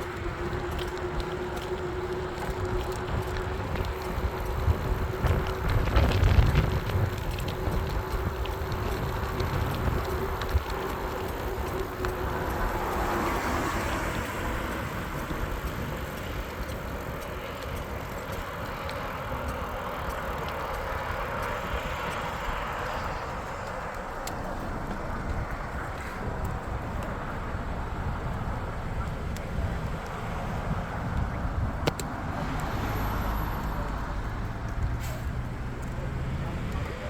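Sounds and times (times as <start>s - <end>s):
rushing road noise: 0.0s - 37.0s
wind buffeting microphone: 0.0s - 37.0s.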